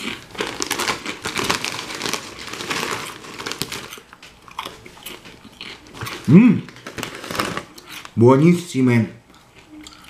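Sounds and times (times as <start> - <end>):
crisps being crunched: 0.0 - 8.2.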